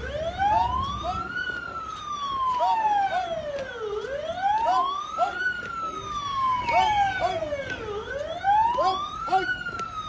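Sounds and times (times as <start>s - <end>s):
vehicle siren wailing: 0.0s - 10.0s.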